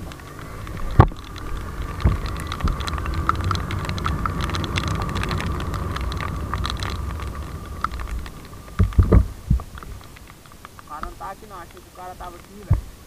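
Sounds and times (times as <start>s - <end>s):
raindrops tapping: 0.0s - 13.0s
steady low rumble: 0.0s - 13.0s.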